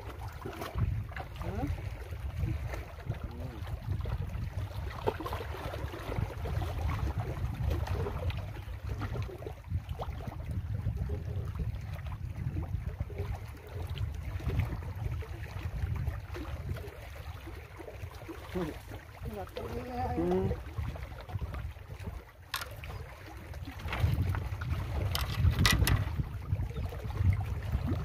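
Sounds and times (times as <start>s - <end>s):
water lapping on rocks: 0.0s - 28.0s
wind buffeting microphone: 0.0s - 28.0s.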